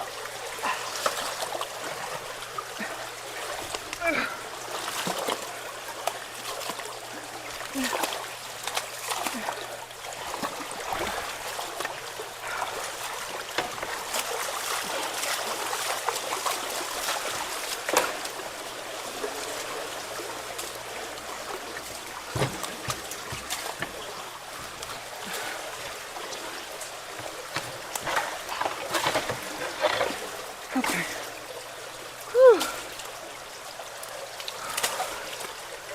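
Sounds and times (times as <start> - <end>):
running water trickling and splashing: 0.0 - 35.9.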